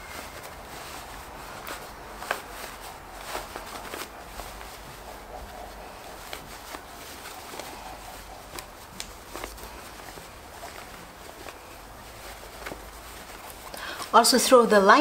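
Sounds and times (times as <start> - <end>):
fabric rustling and crumpling: 0.0 - 15.0.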